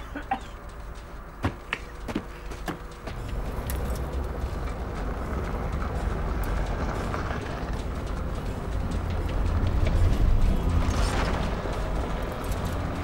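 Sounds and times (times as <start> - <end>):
car engine rumble: 0.0 - 13.0
tyre noise on dirt road: 1.4 - 13.0.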